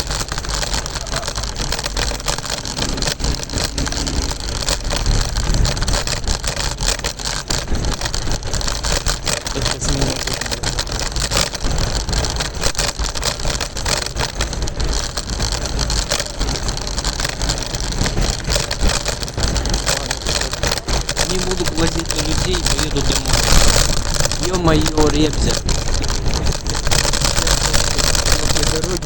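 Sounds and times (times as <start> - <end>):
scooter wheels clicking on pavement: 0.0 - 29.0
wind rumbling on microphone: 0.0 - 29.0.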